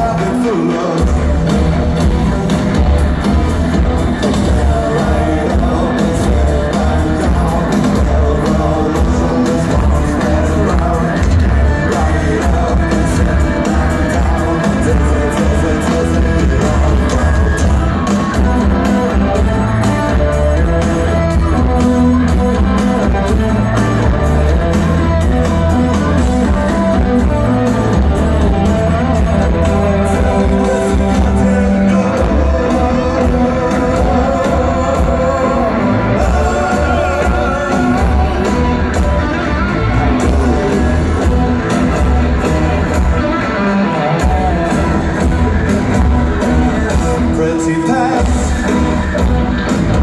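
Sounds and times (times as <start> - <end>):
distorted electric guitars: 0.0 - 50.0
drum beat: 0.0 - 50.0
heavy bass: 0.0 - 50.0.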